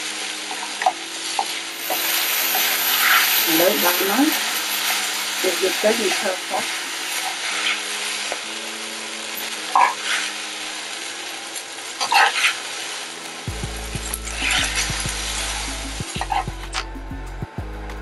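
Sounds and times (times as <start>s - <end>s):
noodles sizzling in frying pan: 0.0s - 16.6s.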